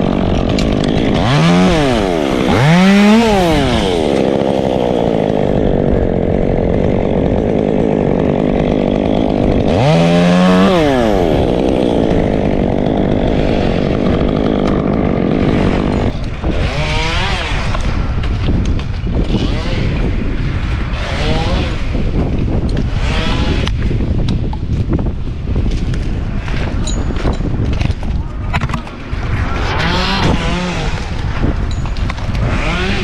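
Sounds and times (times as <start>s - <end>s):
chainsaw revving: 0.0s - 24.8s, 28.6s - 33.0s.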